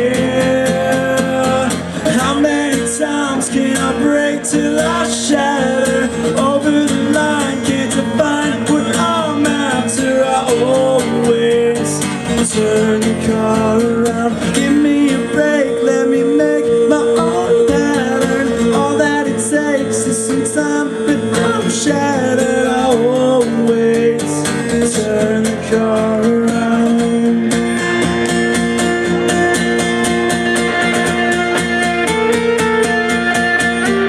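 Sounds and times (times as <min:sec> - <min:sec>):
strummed guitar rhythm: 0:00.0 - 0:34.0
live band instrumental music: 0:00.3 - 0:34.0.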